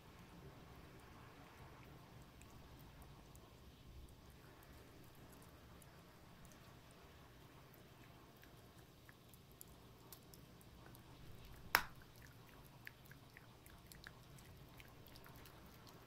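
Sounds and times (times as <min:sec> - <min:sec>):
puppy teeth crunching chew: 0:01.8 - 0:16.0.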